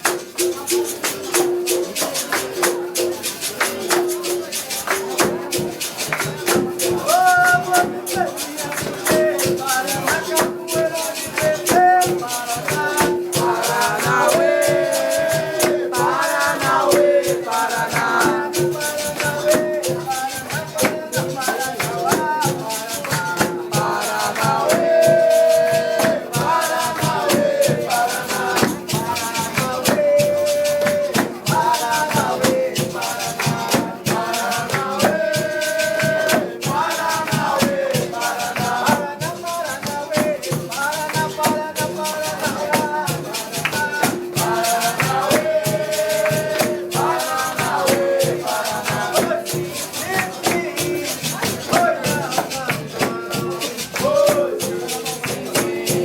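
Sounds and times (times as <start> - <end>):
shaker rattle: 0.0 - 56.0
person singing: 0.1 - 56.0.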